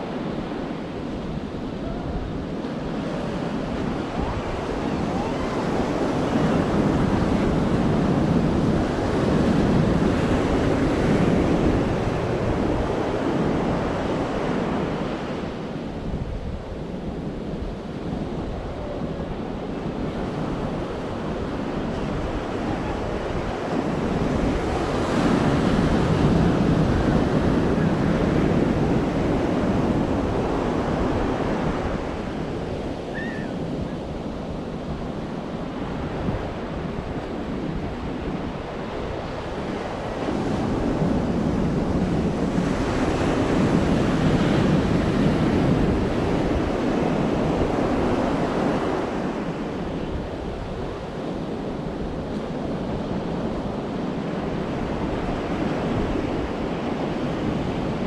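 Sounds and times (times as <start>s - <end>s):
surf washing up a beach: 0.0s - 58.0s.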